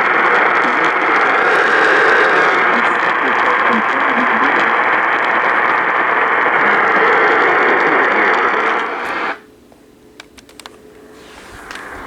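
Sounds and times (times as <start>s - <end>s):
radio static hiss: 0.0s - 9.5s, 10.5s - 12.0s
faint steady hum: 0.0s - 12.0s.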